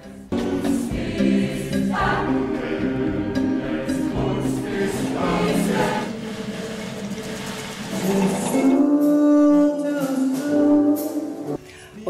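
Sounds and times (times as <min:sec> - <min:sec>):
choir singing: 0:00.0 - 0:11.6
small instrumental ensemble: 0:00.0 - 0:12.0.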